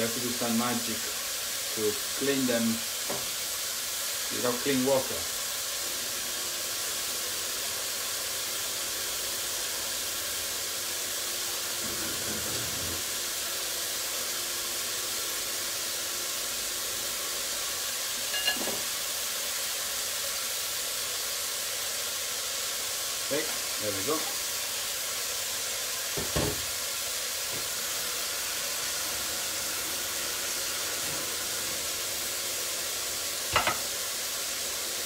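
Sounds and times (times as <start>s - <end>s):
mushrooms sizzling in a pan: 0.0s - 35.0s.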